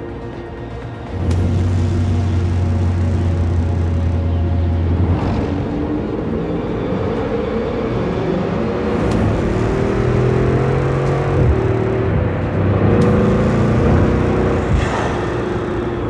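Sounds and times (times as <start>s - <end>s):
car engine accelerating: 0.0s - 16.0s
low steady drone: 0.0s - 16.0s.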